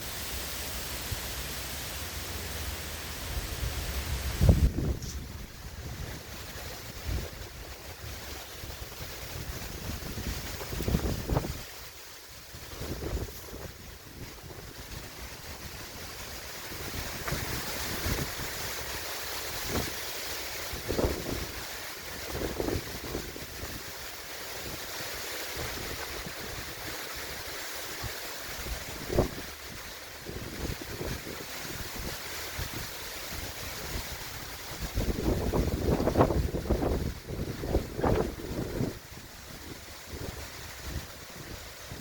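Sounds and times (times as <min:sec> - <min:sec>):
wind buffeting microphone: 0:03.3 - 0:24.0, 0:25.6 - 0:42.0.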